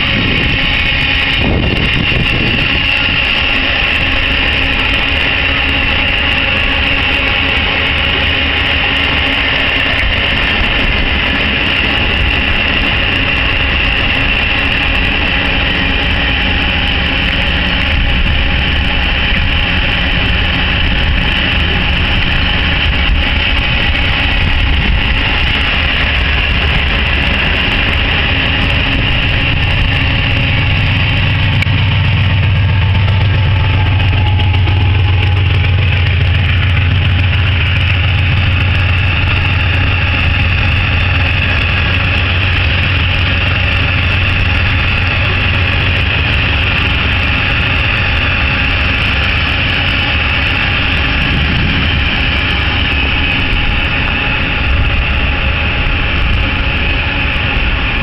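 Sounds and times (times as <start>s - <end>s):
diesel locomotive drone: 0.0s - 58.0s
train cars rolling on rails: 0.0s - 58.0s.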